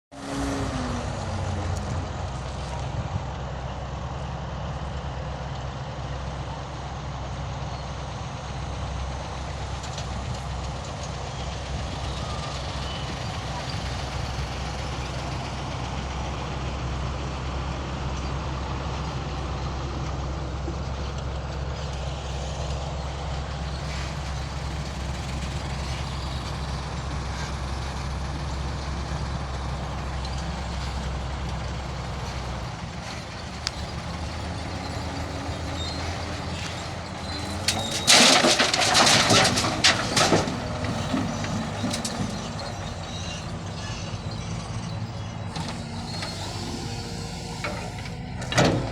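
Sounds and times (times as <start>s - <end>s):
diesel engine droning: 0.1s - 48.9s.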